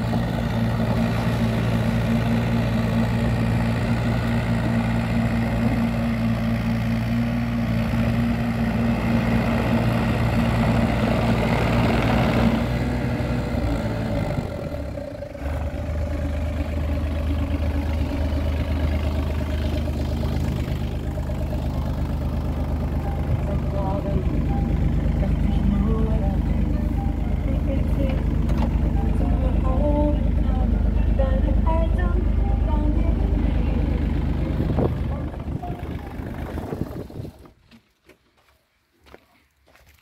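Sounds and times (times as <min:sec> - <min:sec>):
excavator diesel engine idling: 0:00.0 - 0:37.6.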